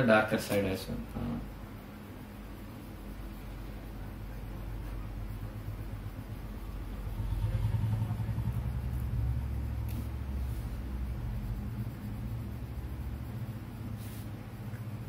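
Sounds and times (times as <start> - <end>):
low rumble with steady hum: 0.8 - 15.0.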